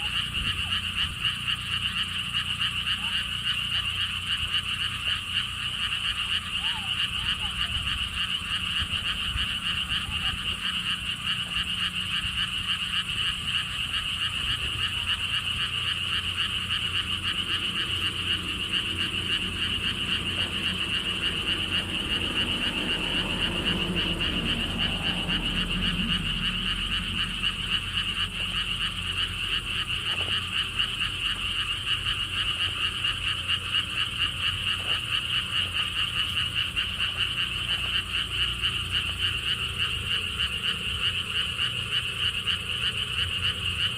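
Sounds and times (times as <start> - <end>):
frogs chorus trilling: 0.0 - 43.9.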